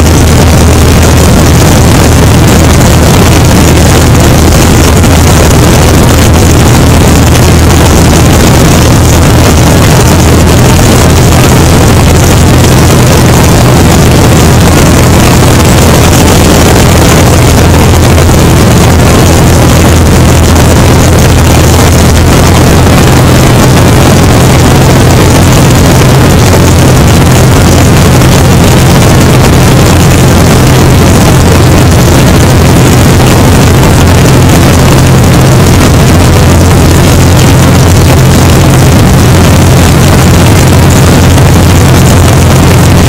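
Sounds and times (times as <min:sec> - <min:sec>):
airplane engine and propeller drone: 0:00.0 - 0:43.0
wind rushing over microphone: 0:00.0 - 0:43.0.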